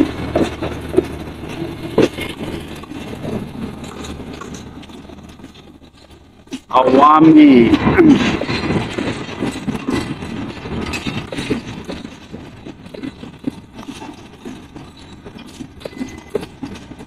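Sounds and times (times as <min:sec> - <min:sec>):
low train rumble: 0:00.0 - 0:17.0
train wheels clattering over rail joints: 0:00.0 - 0:17.0.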